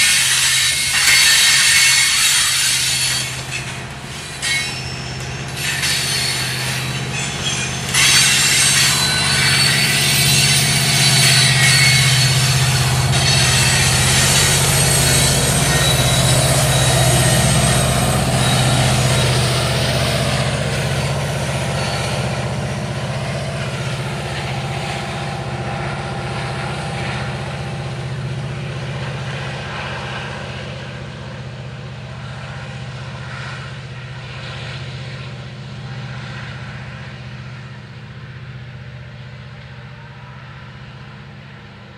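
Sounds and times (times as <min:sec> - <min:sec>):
locomotive engine drone: 0:00.0 - 0:41.9
wheel-on-rail noise: 0:00.0 - 0:41.9.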